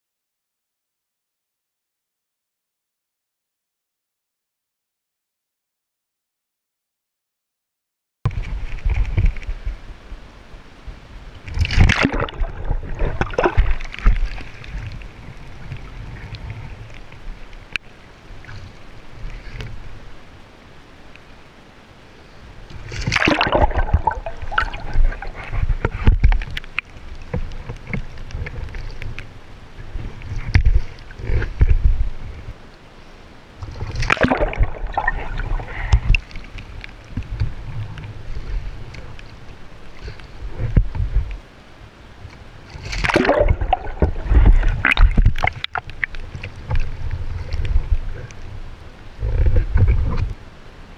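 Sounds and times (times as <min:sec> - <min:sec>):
water splashing and sloshing: 0:08.3 - 0:50.9.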